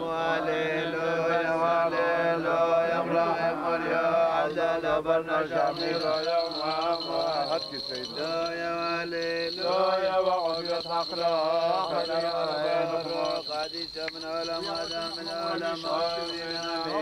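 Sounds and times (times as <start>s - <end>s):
man chanting a prayer: 0.0s - 17.0s.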